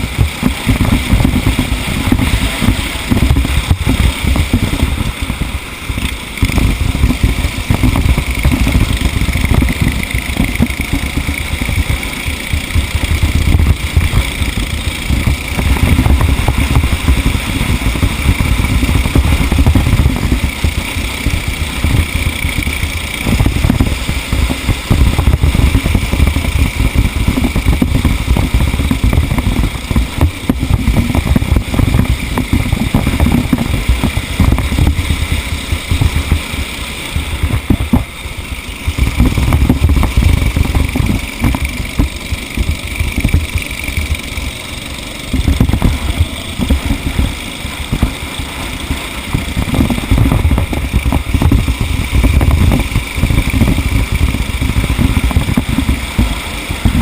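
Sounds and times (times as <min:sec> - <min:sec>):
racing engine at speed: 0:00.0 - 0:57.0
wind buffeting microphone: 0:00.0 - 0:57.0.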